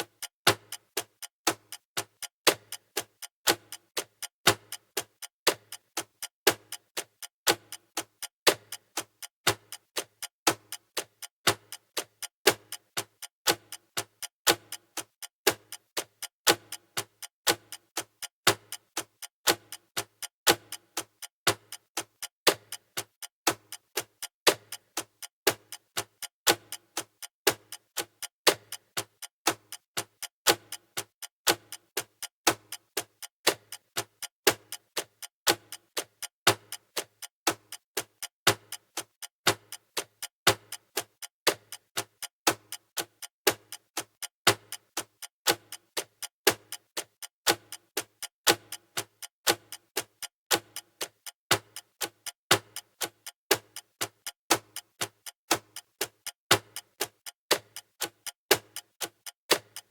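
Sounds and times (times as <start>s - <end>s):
countdown timer ticking: 0.0s - 59.9s.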